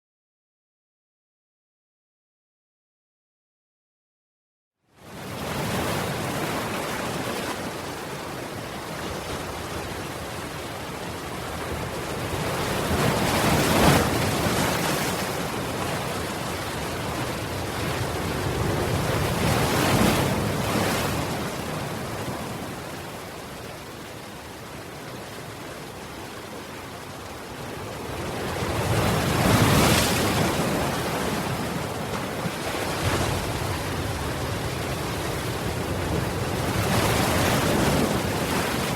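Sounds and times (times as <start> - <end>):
ocean waves breaking on shore: 5.0 - 38.9.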